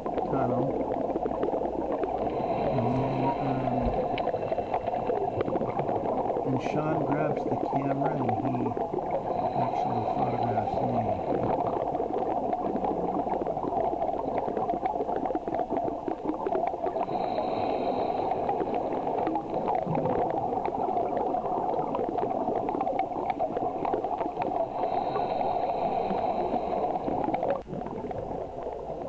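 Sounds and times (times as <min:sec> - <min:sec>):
regulator bubbles gurgling underwater: 0:00.0 - 0:29.0.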